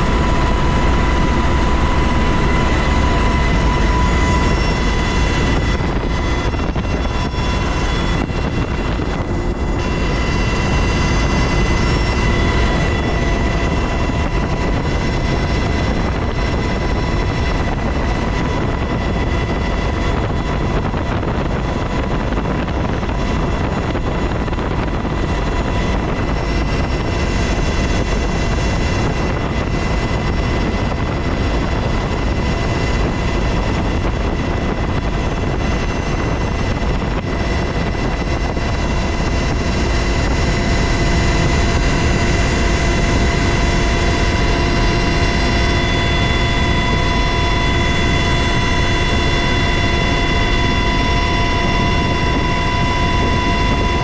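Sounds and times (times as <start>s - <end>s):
helicopter rotor rumble: 0.0s - 54.0s
high engine whine: 0.0s - 54.0s.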